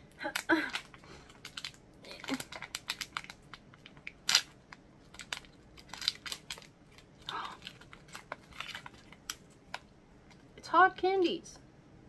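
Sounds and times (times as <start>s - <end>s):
snack package crackling: 0.1s - 10.6s.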